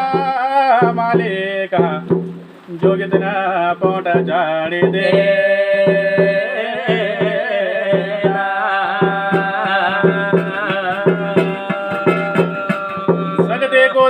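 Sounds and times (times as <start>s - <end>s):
drums beating steadily: 0.0s - 14.0s.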